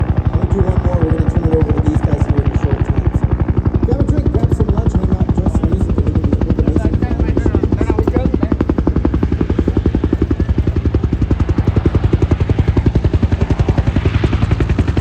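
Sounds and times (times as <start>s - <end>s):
aircraft radial engines running: 0.0s - 15.0s
propeller throb: 0.0s - 15.0s.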